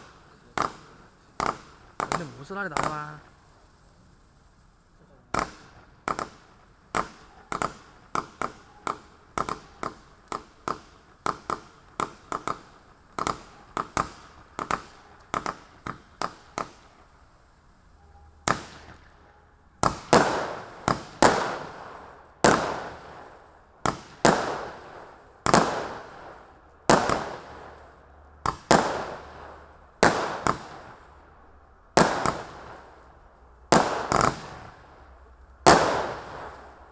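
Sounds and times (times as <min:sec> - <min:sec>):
firework pops and booms: 0:00.0 - 0:04.3, 0:05.1 - 0:17.6, 0:18.4 - 0:19.2, 0:19.8 - 0:31.3, 0:31.9 - 0:36.9.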